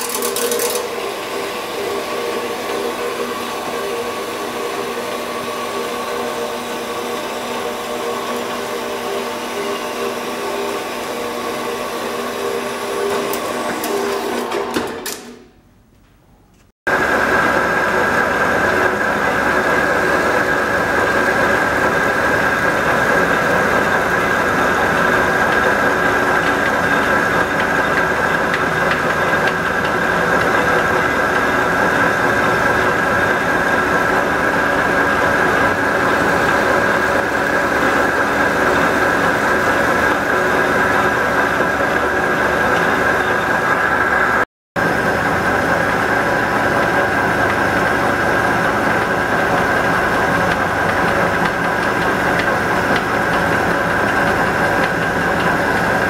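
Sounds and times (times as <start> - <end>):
metal lathe whining: 0.0 - 15.2, 16.9 - 56.0
metal-cutting band saw running: 0.0 - 15.4, 16.9 - 56.0.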